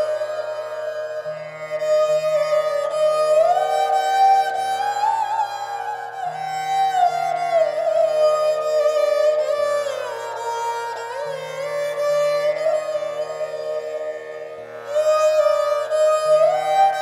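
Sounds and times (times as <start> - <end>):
bowed string melody: 0.0 - 17.0.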